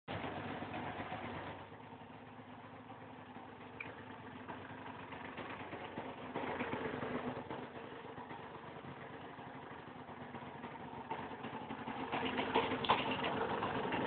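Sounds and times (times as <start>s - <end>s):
motorcycle engine idling: 0.1s - 14.0s.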